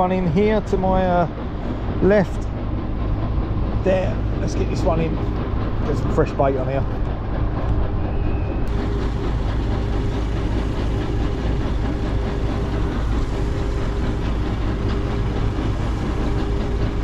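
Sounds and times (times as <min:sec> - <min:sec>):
pumping machinery engine drone: 0:00.0 - 0:17.0.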